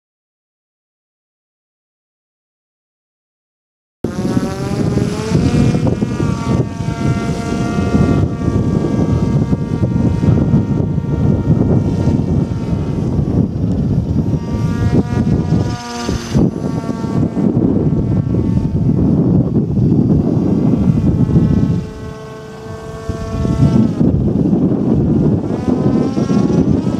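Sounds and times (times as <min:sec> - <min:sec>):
model aircraft motor whining: 0:04.1 - 0:26.9.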